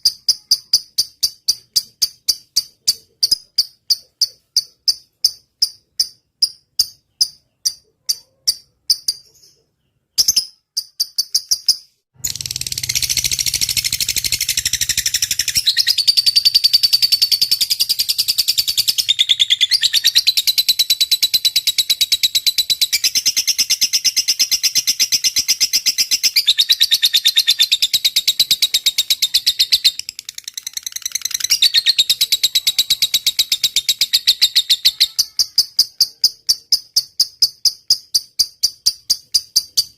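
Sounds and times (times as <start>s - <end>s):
high bird chirps: 0.0s - 39.9s
lovebird chattering trill: 0.0s - 39.9s.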